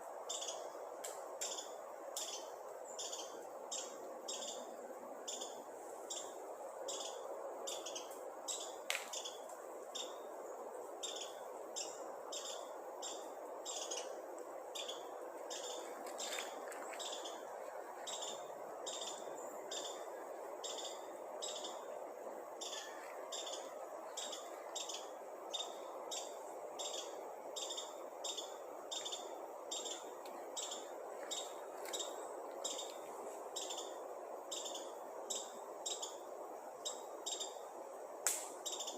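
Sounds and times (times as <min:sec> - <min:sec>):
bird chirping: 0:00.3 - 0:00.8, 0:01.4 - 0:10.3, 0:11.0 - 0:33.0, 0:33.6 - 0:36.2, 0:36.8 - 0:37.6, 0:38.6 - 0:38.9.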